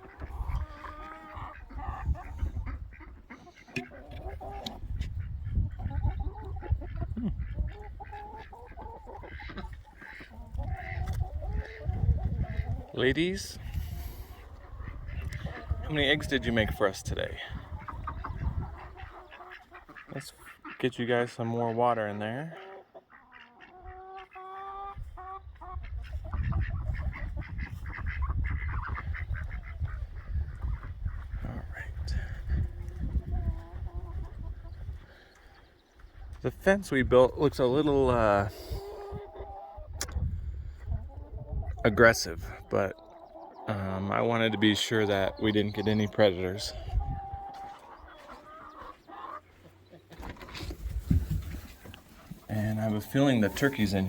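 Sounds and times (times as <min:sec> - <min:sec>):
farmyard bird honking: 0:00.0 - 0:36.8, 0:37.6 - 0:54.0
chickens squawking and clucking: 0:00.0 - 0:54.0.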